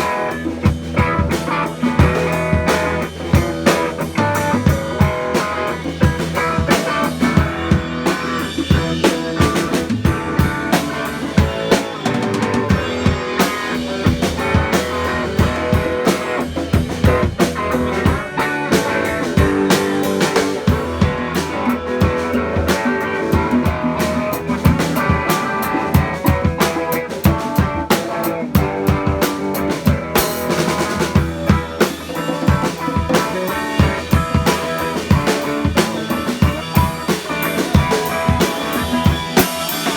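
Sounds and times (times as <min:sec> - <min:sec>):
drum kit beat: 0:00.0 - 0:39.9
guitar playing: 0:00.0 - 0:39.9.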